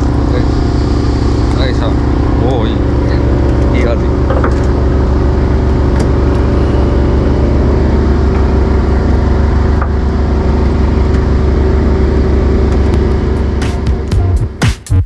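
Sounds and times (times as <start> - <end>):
boat engine droning: 0.0 - 14.6.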